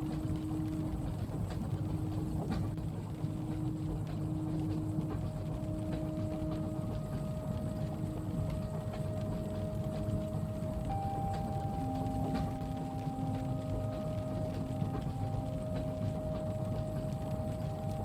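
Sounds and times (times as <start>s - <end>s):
faint steady hums: 0.0s - 18.0s
train carriage rumble: 0.0s - 18.0s.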